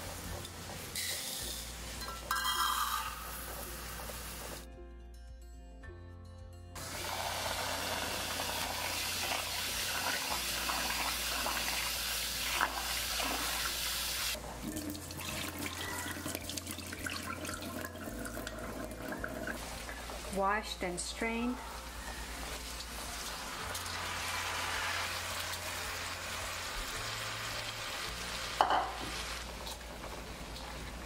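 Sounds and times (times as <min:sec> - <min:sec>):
soft background music: 0:00.0 - 0:31.0.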